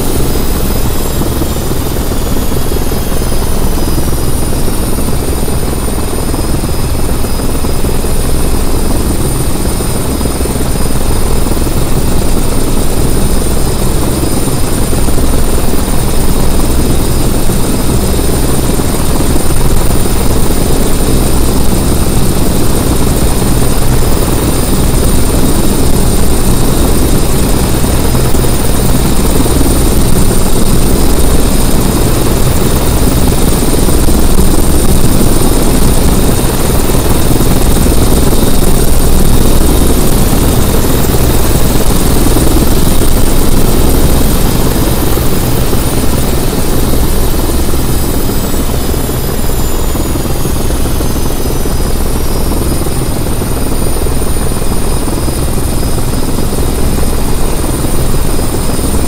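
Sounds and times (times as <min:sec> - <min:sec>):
helicopter rotor beating: 0:00.0 - 0:59.0
high whine: 0:00.0 - 0:59.0.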